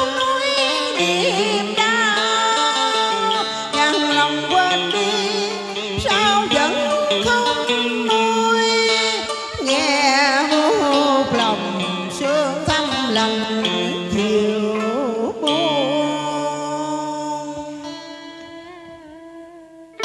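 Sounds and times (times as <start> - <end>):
stringed instruments with bending notes: 0.0 - 20.0.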